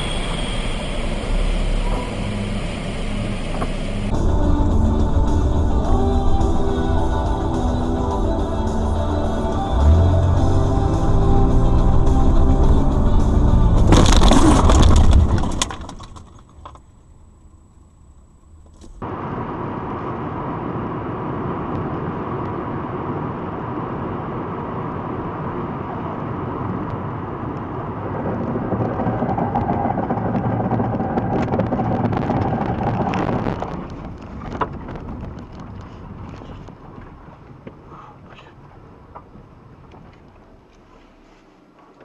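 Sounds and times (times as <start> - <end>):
car road and engine rumble: 0.0 - 42.0.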